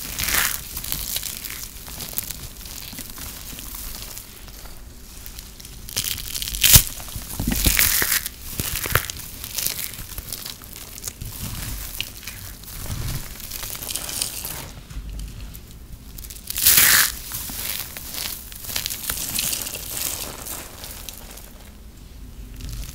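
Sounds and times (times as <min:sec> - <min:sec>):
hands crushing dry shredded soap: 0:00.0 - 0:22.9.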